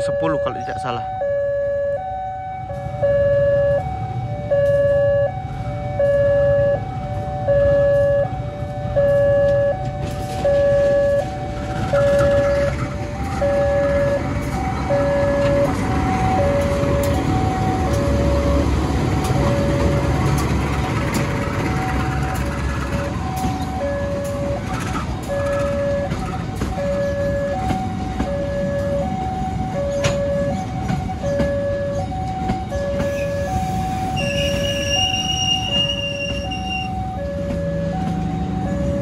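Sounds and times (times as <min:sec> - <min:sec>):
level crossing two-tone alarm: 0:00.0 - 0:20.2, 0:21.7 - 0:39.0
diesel train passing: 0:00.0 - 0:39.0.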